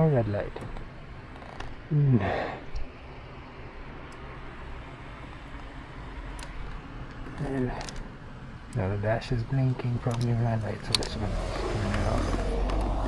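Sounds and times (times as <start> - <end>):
faint clicks: 0.0 - 13.0
street traffic: 0.0 - 13.0.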